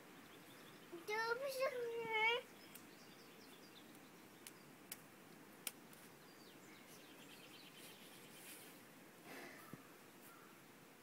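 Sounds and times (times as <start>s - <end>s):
faint birds chirping: 0.0s - 11.0s
outdoor background hiss: 0.0s - 11.0s.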